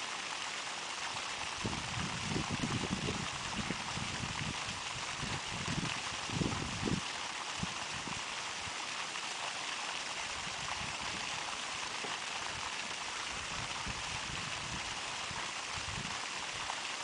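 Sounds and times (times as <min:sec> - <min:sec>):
water rushing from a pipe: 0:00.0 - 0:17.0.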